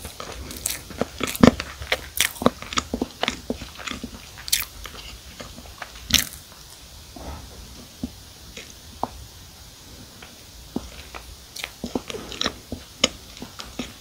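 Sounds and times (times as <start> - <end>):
person chewing crunchy cookie: 0.0 - 14.0.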